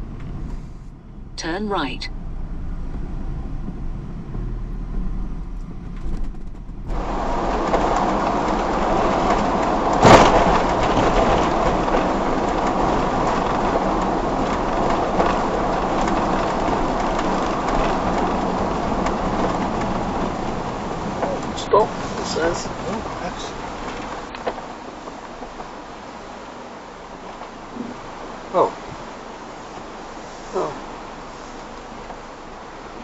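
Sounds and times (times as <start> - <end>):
motorhome road noise: 0.0 - 33.0.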